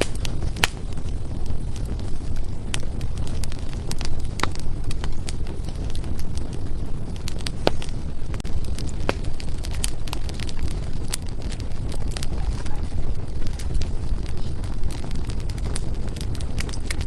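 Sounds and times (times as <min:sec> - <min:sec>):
fire flames rumbling: 0:00.0 - 0:17.0
firewood crackling and popping: 0:00.0 - 0:17.0.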